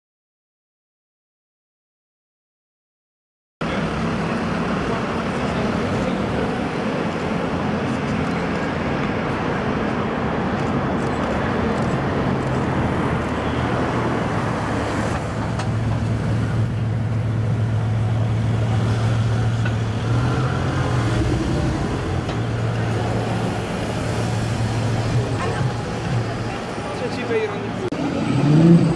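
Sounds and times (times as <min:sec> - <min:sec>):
car engine low drone: 0:03.6 - 0:27.0
traffic noise: 0:03.6 - 0:28.9.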